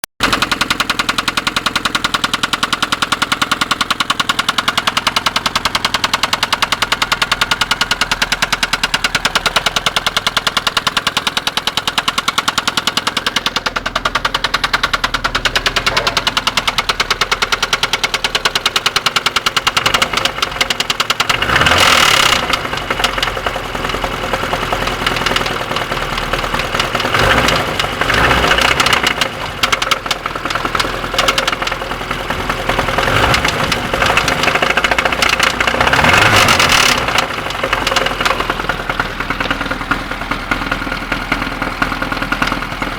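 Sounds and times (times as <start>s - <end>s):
fast regular engine knock: 0.2s - 42.9s
vehicle engine running: 0.2s - 42.9s.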